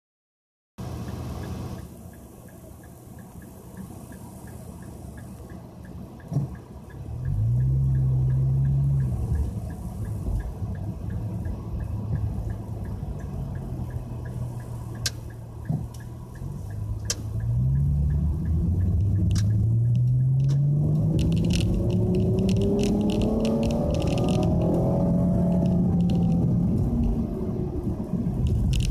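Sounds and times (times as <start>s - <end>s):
car engine idling and accelerating: 0.8s - 28.9s
faint ticking: 1.0s - 27.3s.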